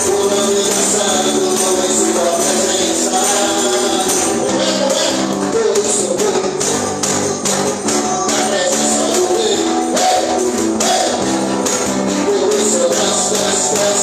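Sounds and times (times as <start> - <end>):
tambourine shaken: 0.0 - 14.0
worship band playing: 0.0 - 14.0.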